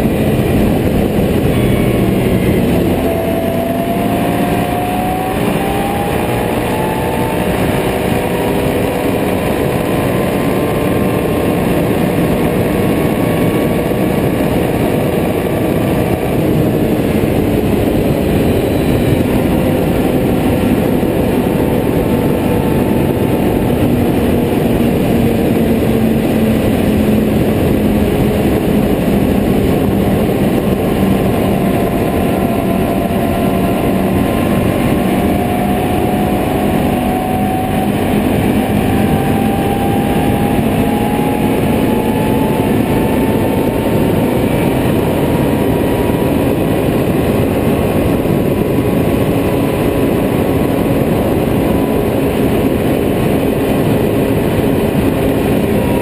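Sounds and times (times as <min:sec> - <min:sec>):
atv engine running: 0:00.0 - 0:56.0
road noise: 0:00.0 - 0:56.0.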